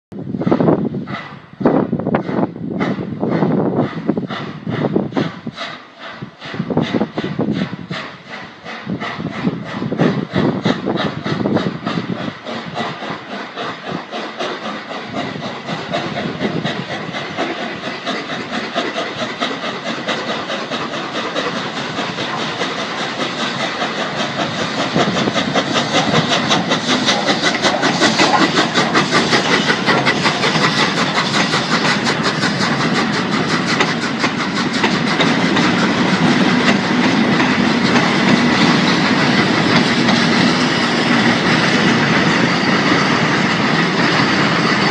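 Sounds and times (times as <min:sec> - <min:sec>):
diesel locomotive engine running: 0:00.1 - 0:44.9
steam locomotive exhaust beats: 0:00.1 - 0:44.9
train wheel clatter: 0:00.2 - 0:44.9.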